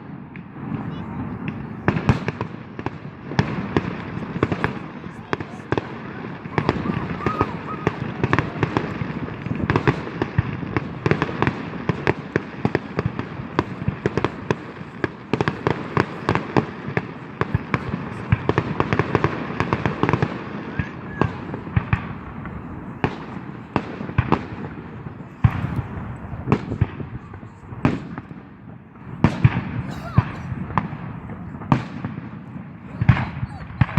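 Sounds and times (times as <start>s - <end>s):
distant firework bursts: 0.0s - 33.9s
firecrackers banging and crackling: 0.0s - 33.9s.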